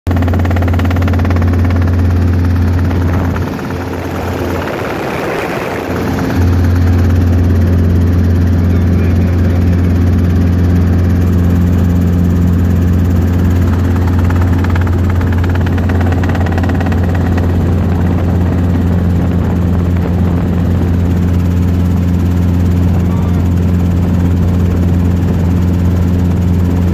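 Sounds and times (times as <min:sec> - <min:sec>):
helicopter rotor and engine drone: 0:00.1 - 0:26.9.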